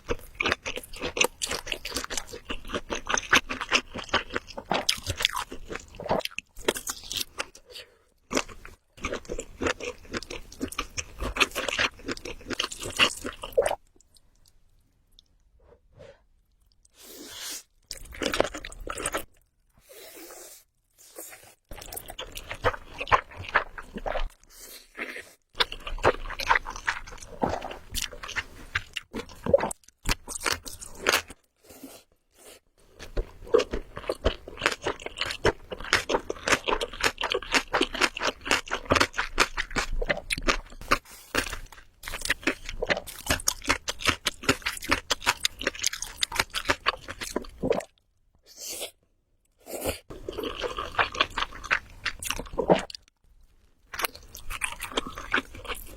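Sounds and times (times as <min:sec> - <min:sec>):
person chewing and crunching food: 0:00.0 - 0:55.9.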